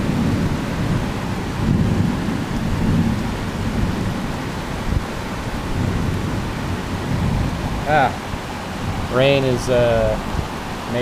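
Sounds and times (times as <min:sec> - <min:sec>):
heavy rain pouring: 0:00.0 - 0:11.0
thunder rumbling: 0:00.0 - 0:11.0.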